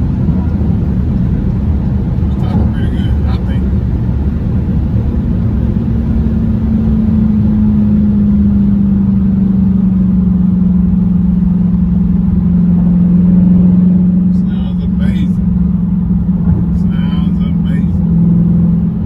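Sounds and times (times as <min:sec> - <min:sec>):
car engine and exhaust droning: 0:00.0 - 0:19.0.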